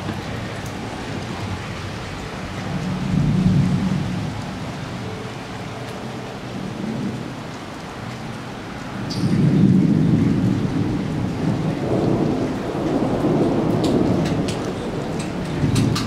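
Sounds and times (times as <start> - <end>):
thunder rumble: 0.0 - 7.5, 8.4 - 16.0
steady rain hissing: 0.0 - 16.0.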